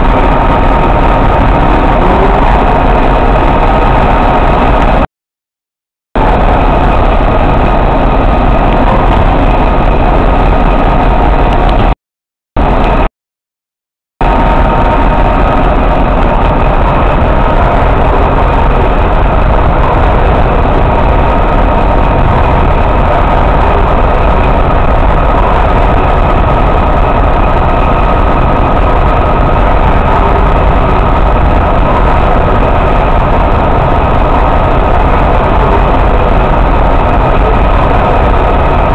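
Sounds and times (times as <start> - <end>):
diesel locomotive engine rumbling: 0.0 - 5.1, 6.2 - 12.0, 12.6 - 13.1, 14.2 - 38.9
high whine: 0.0 - 5.1, 6.2 - 12.0, 12.6 - 13.1, 14.2 - 38.9.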